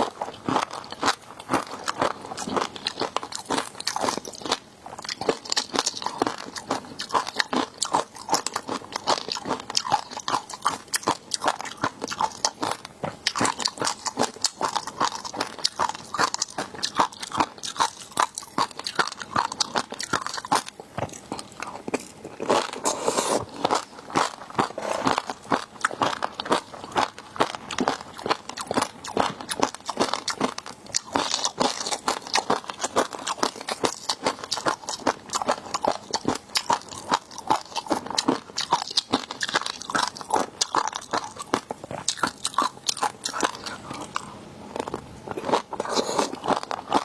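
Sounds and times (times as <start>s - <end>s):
crunching and chewing food: 0.0s - 47.0s.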